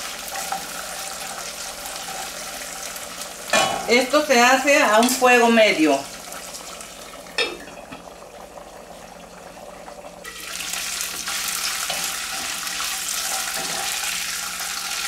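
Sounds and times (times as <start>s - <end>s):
corn kernels sizzling in oil: 0.0s - 8.0s, 10.2s - 15.0s.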